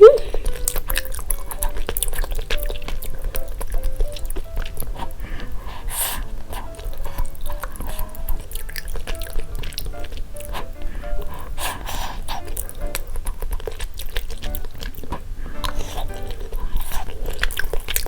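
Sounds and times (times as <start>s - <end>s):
light background music: 0.0s - 18.0s
chewing and wet mouth clicks: 0.2s - 18.0s.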